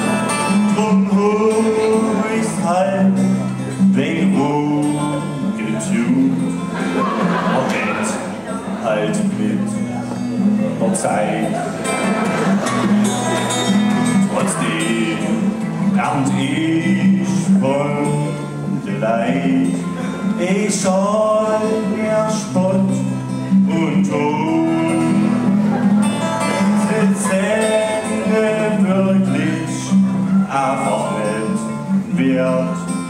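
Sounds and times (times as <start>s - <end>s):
man singing: 0.0s - 12.3s, 14.0s - 33.0s
acoustic guitar: 0.0s - 33.0s.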